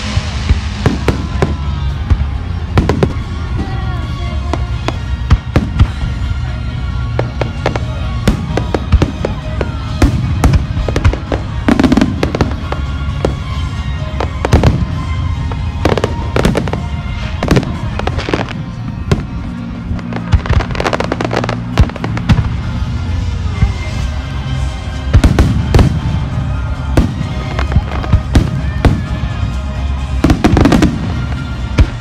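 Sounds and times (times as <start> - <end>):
fireworks bangs and crackles: 0.0 - 32.0
steady low rumble: 0.0 - 32.0.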